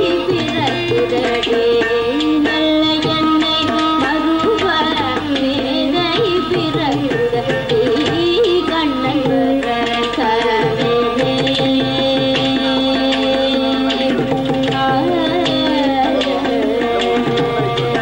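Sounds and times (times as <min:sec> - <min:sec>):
hand drum strokes: 0:00.0 - 0:18.0
person singing: 0:00.0 - 0:18.0
violin melody: 0:00.0 - 0:18.0.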